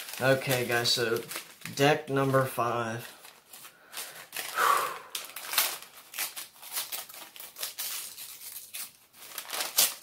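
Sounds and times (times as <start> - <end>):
paper tearing and crumpling: 0.0 - 2.5, 3.2 - 10.0.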